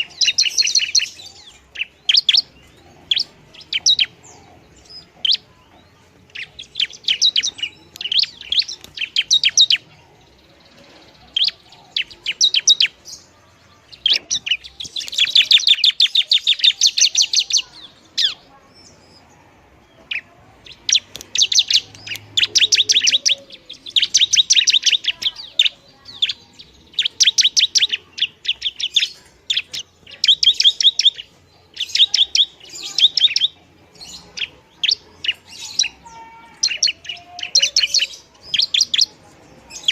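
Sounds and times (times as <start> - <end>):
bird singing sharp ticking notes: 0.0 - 19.3, 19.9 - 39.9.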